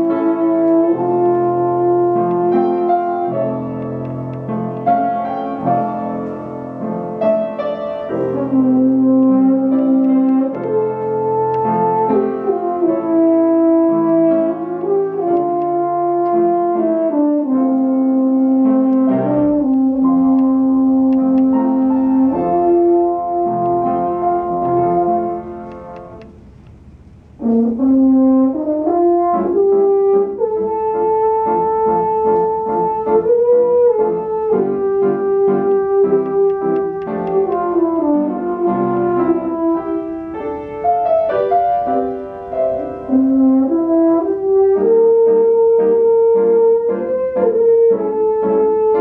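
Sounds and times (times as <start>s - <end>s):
french horn melody: 0.0s - 49.0s
piano accompaniment: 0.0s - 49.0s.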